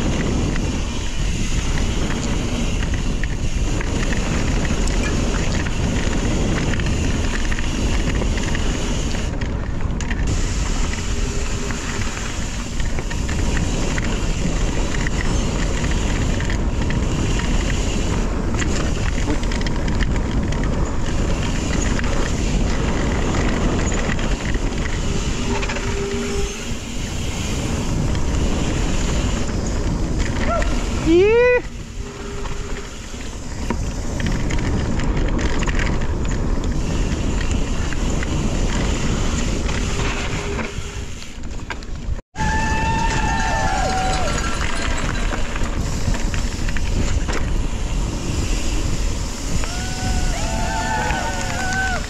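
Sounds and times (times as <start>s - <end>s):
bike rolling noise: 0.0s - 52.0s
wind noise on microphone: 0.0s - 52.0s.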